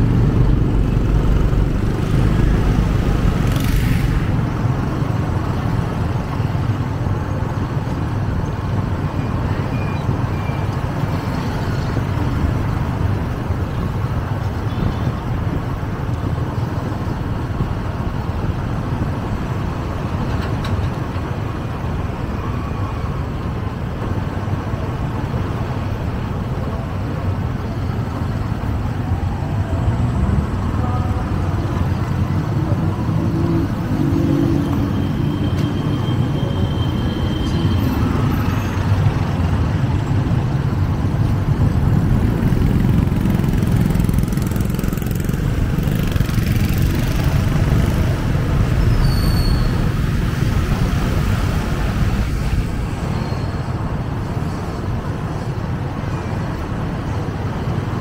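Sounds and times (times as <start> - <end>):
traffic engine rumble: 0.0 - 58.0.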